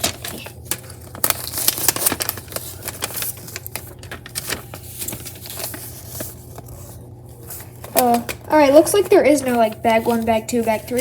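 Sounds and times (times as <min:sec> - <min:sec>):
plastic bags being handled: 0:00.0 - 0:11.0.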